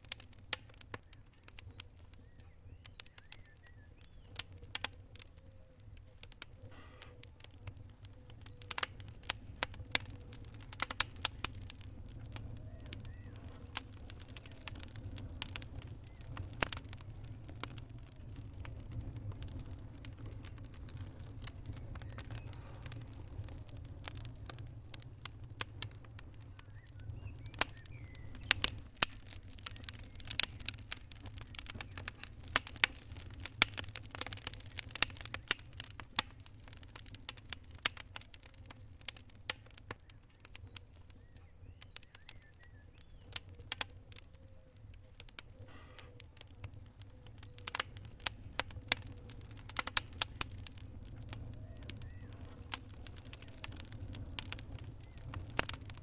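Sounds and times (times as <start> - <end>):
fire crackling with pops: 0.0 - 56.0.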